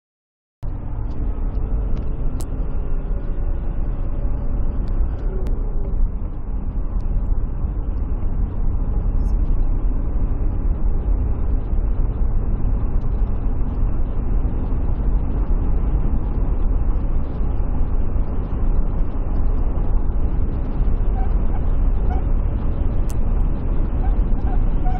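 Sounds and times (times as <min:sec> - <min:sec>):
faint whine: 0:00.6 - 0:24.9
road tyre and wind noise: 0:00.6 - 0:24.9.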